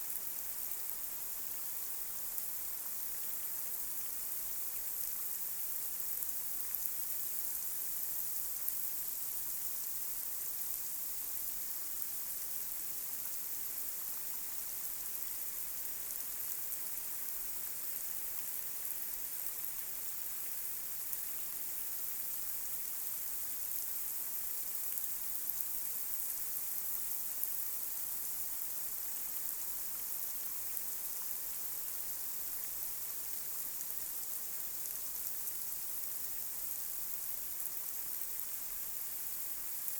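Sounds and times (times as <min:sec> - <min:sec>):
light rain on a street: 0:00.0 - 0:39.9.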